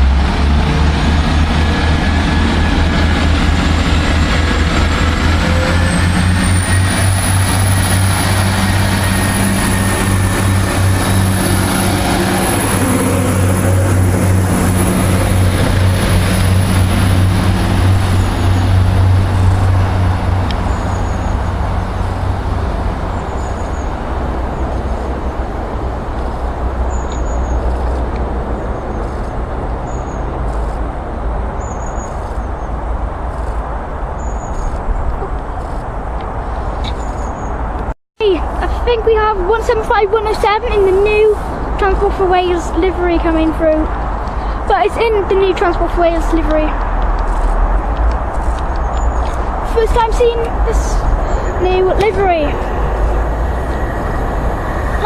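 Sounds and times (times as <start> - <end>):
high engine whine: 0.0 - 55.0
train diesel engines droning: 0.0 - 55.0.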